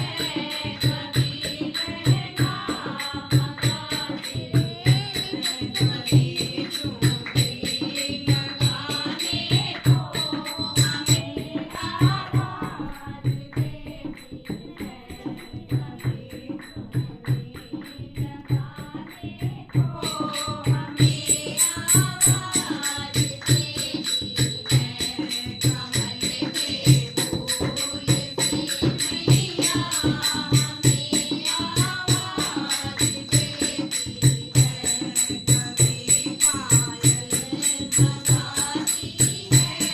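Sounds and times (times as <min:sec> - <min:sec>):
jingling tambourine percussion: 0:00.0 - 0:39.9
people singing devotional song: 0:00.0 - 0:39.9
rhythmic drum beat: 0:00.0 - 0:39.9.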